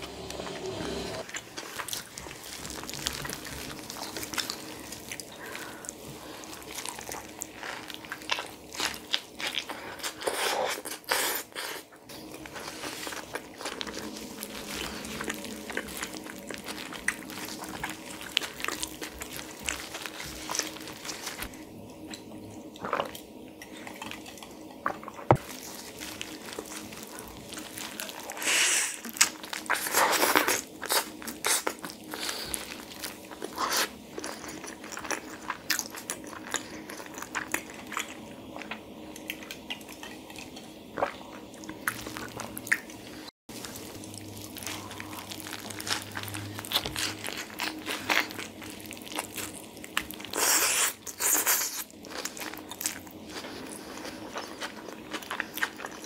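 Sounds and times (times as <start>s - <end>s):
person chewing food: 0.3s - 56.0s.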